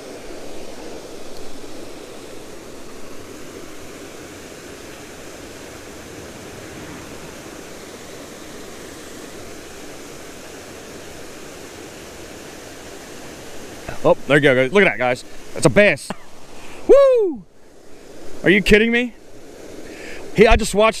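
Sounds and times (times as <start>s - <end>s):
water rushing from spillway: 0.0s - 21.0s.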